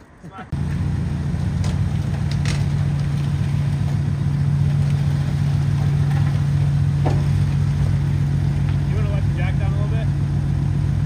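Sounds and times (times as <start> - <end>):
vehicle engine idling: 0.4 - 11.0.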